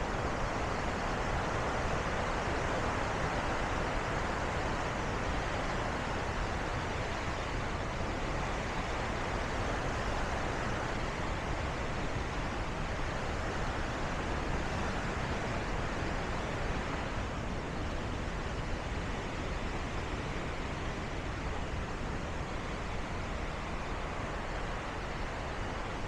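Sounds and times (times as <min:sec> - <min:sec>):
fast river water rushing: 0:00.0 - 0:26.0.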